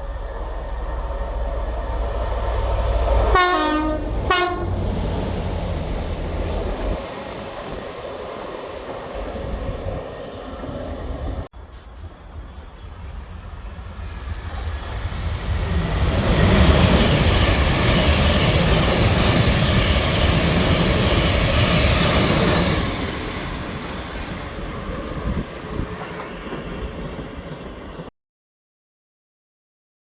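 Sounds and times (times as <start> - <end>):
train passing: 0.0 - 28.1.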